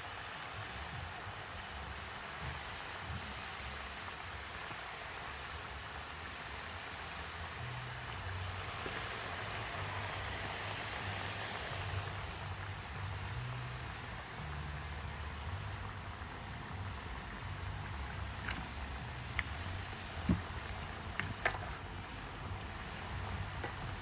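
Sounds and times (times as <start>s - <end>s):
hot oil sizzling and bubbling: 0.0s - 24.0s.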